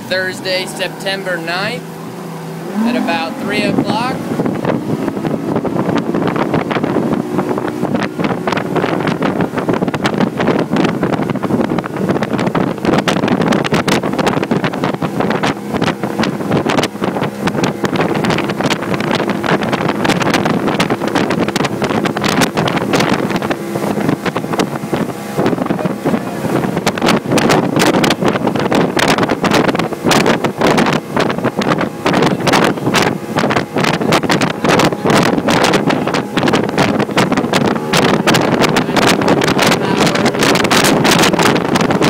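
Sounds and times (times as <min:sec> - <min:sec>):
outboard motor running: 0:00.0 - 0:42.0
wake rushing and splashing: 0:00.0 - 0:42.0
wind buffeting microphone: 0:00.0 - 0:42.0.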